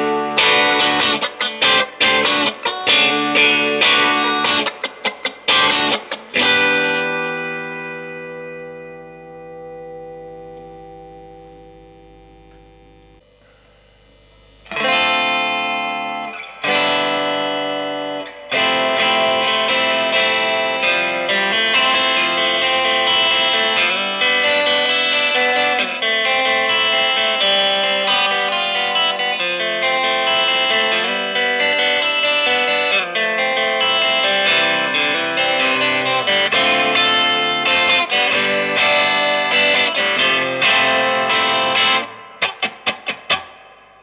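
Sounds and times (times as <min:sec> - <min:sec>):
clean electric guitar playing: 0:00.0 - 0:44.0.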